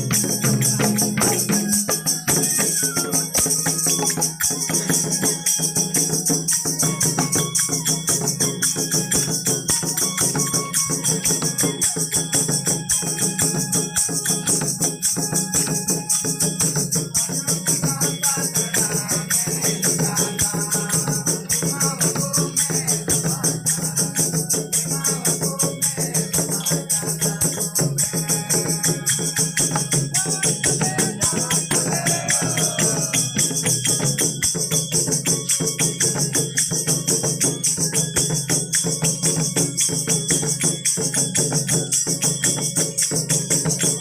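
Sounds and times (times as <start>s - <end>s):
hand drums beaten fast: 0.0s - 44.0s.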